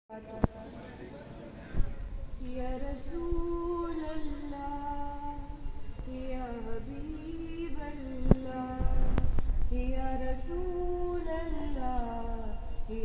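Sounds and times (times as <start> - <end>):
girl singing devotional song: 2.4 - 13.0.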